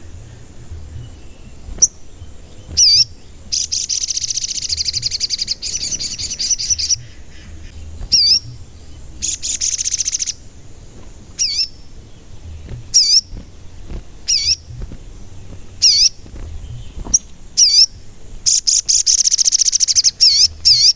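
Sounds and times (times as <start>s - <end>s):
bird whistled notes: 0.0s - 10.4s, 12.5s - 15.0s, 15.6s - 20.9s
bird rattling trill: 0.0s - 20.9s.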